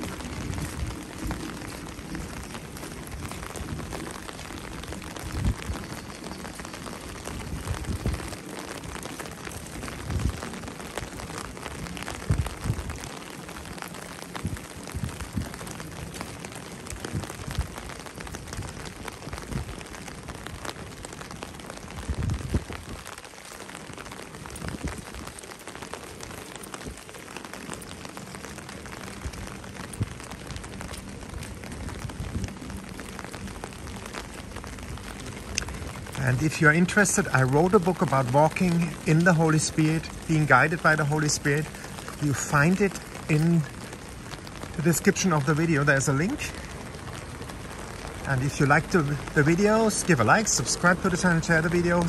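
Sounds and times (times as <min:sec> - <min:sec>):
heavy rain on pavement: 0:00.0 - 0:52.0.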